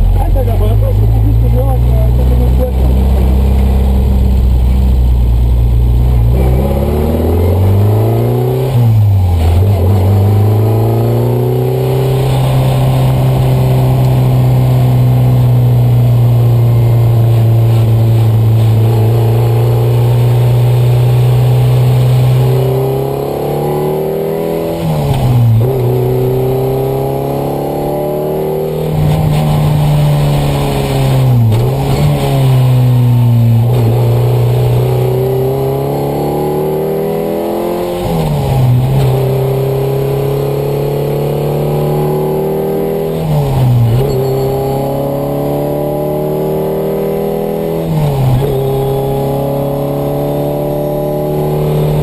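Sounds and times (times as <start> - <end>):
car engine at full throttle: 0.0 - 52.0.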